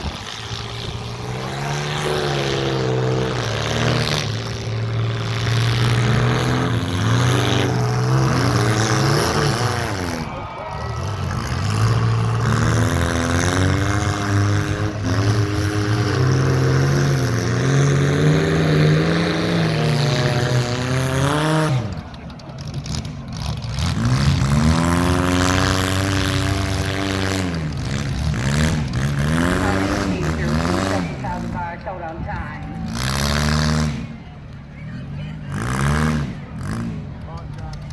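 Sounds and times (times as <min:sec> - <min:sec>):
car engines revving hard: 0:00.0 - 0:37.9.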